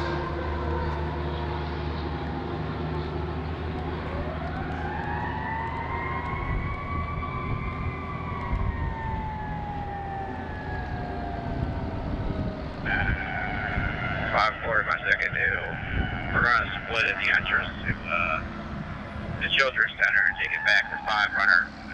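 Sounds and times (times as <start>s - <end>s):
emergency vehicle siren wailing: 0.0s - 21.9s
engine and traffic rumble: 0.0s - 21.9s.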